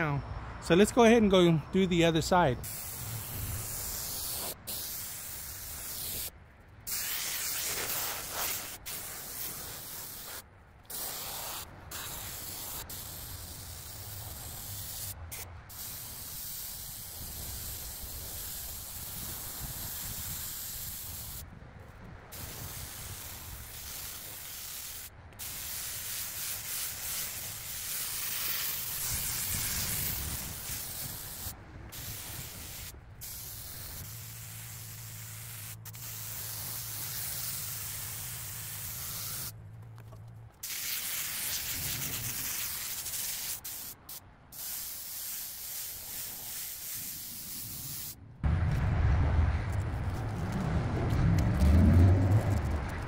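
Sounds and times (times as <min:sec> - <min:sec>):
spray gun hissing: 0:02.6 - 0:06.3, 0:06.9 - 0:21.4, 0:22.3 - 0:39.6, 0:40.6 - 0:48.2.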